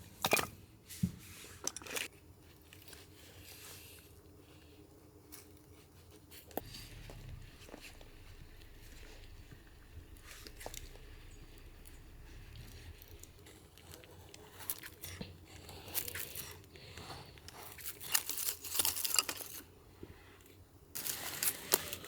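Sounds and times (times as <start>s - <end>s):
rustling and crinkling: 0.9s - 22.0s.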